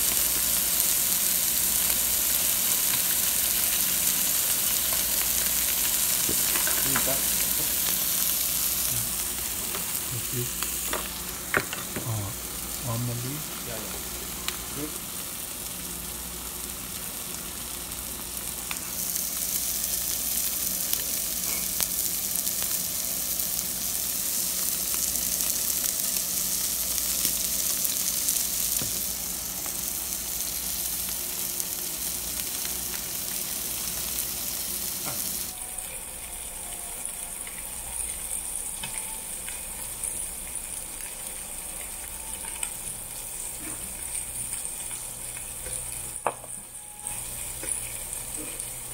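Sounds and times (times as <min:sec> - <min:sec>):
meat sizzling on grill plate: 0:00.0 - 0:48.9.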